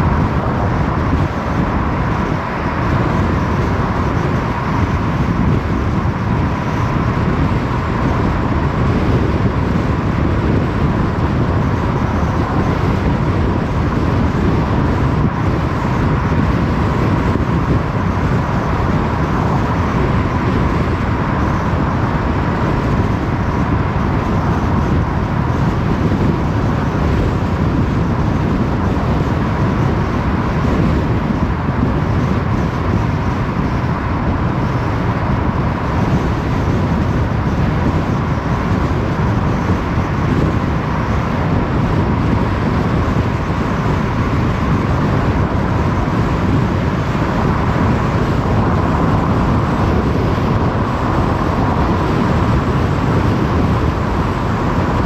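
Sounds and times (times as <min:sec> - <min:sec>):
road and engine noise: 0:00.0 - 0:55.0.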